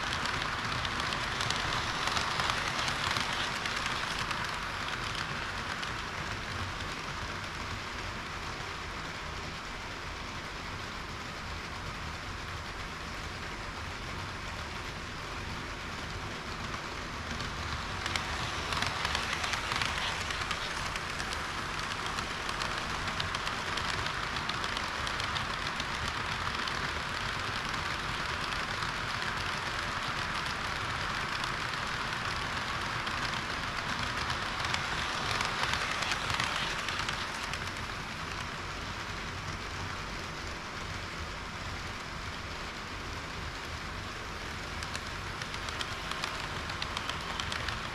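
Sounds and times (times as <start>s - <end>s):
model train wheels rattling on rail: 0.0s - 47.9s.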